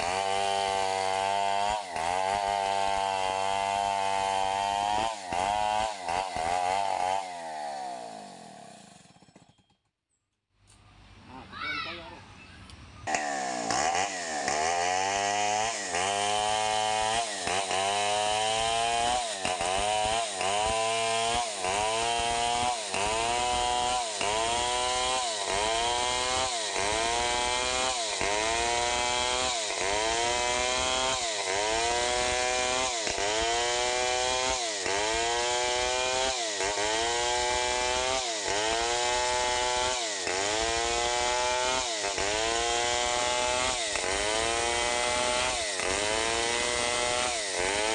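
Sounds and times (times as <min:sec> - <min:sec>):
chainsaw cutting log: 0:00.0 - 0:09.8, 0:13.0 - 0:47.9.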